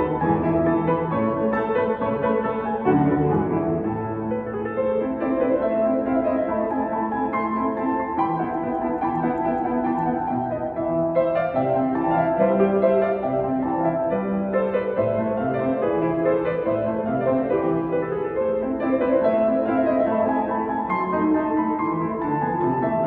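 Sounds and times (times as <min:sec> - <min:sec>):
solo grand piano: 0:00.0 - 0:23.0.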